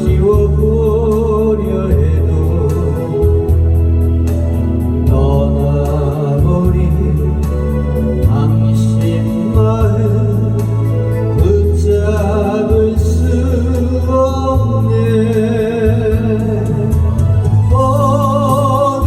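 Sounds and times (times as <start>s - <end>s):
person singing with vibrato: 0.0s - 4.0s, 5.0s - 19.0s
backing track with bass line: 0.0s - 19.0s.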